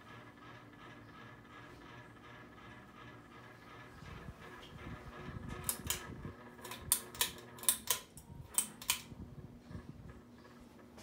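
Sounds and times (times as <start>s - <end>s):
ceiling fan motor hum: 0.0s - 11.0s.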